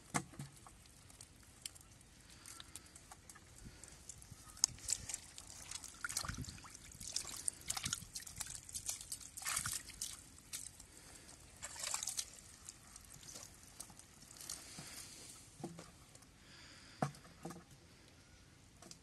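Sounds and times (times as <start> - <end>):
water sloshing and splashing: 0.0 - 16.1.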